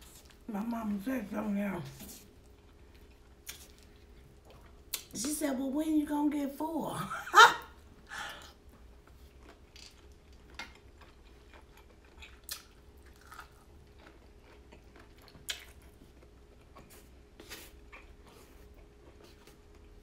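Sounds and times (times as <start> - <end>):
quiet chewing: 0.0 - 0.7, 1.8 - 5.1, 7.9 - 20.0.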